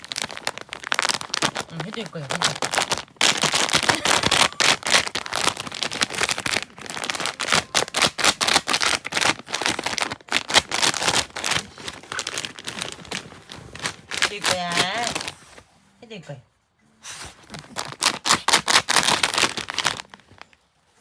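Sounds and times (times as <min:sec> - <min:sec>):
dried snack crinkling: 0:00.0 - 0:15.6, 0:17.0 - 0:20.6.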